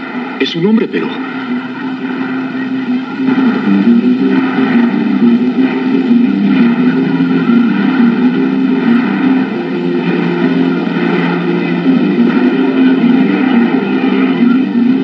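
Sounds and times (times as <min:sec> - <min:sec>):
loud steady drone with low tones: 0:00.0 - 0:15.0.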